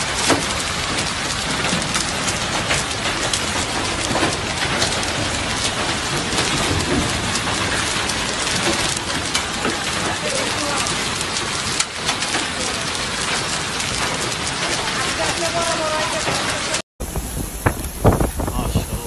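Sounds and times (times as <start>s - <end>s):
hailstones ticking: 0.0s - 19.0s
rain hissing on paving: 0.0s - 19.0s.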